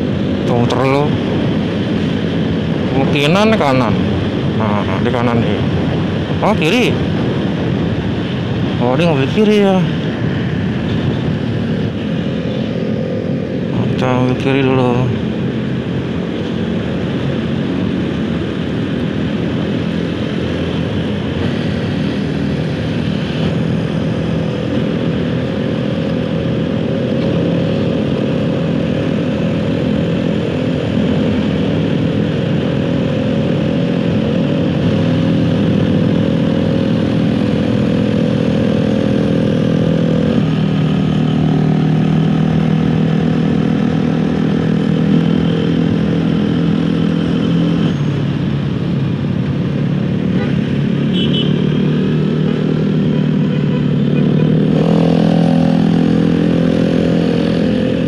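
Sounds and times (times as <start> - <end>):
motorcycle engine running: 0.0 - 58.0
other motorcycles: 0.0 - 58.0
road and wind noise: 0.0 - 58.0.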